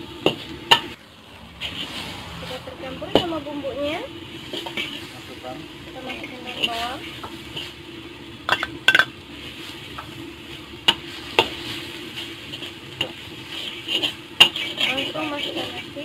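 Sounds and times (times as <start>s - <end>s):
food sizzling: 0.0s - 16.0s
metal spatula scraping a wok: 0.2s - 7.8s, 8.4s - 16.0s.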